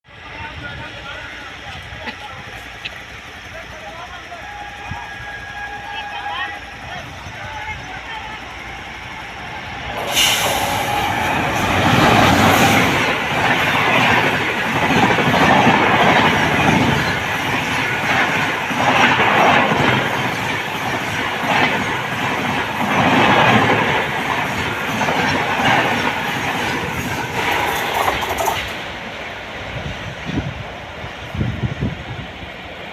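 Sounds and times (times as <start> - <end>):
train passing at high speed: 0.0 - 32.9.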